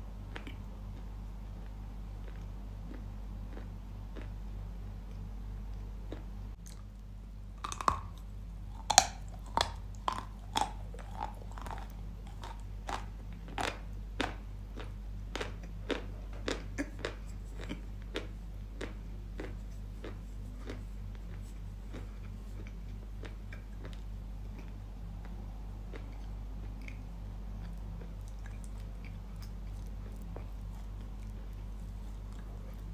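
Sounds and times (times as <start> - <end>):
crisp chewing crunches: 1.6 - 4.4, 7.6 - 32.9.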